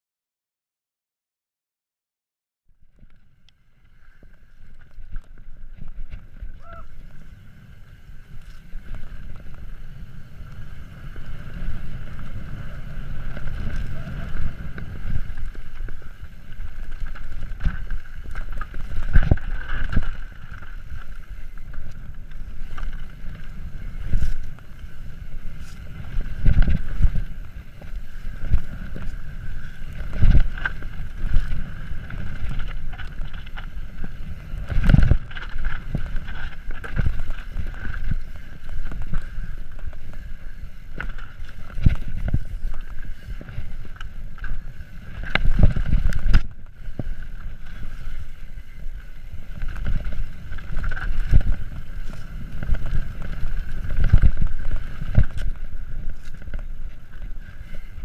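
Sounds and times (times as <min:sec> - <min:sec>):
mountain bike rumble: 0:02.8 - 0:58.0
wind buffeting microphone: 0:05.0 - 0:58.0.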